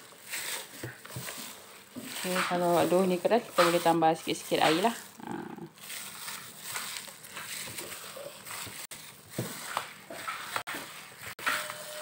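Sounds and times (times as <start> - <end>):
dough squishing in a bowl: 0.0 - 12.0.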